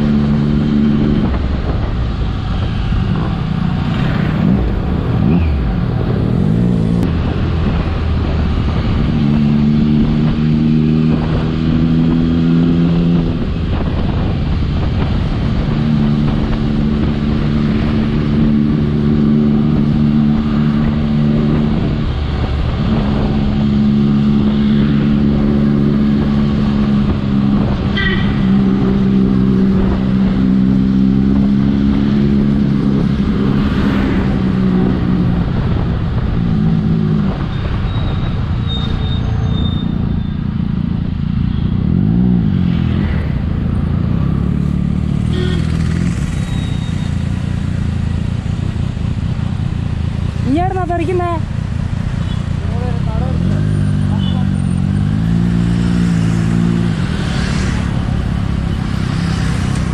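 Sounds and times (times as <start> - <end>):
motorcycle engines running: 0.0 - 59.9
road noise: 0.0 - 59.9.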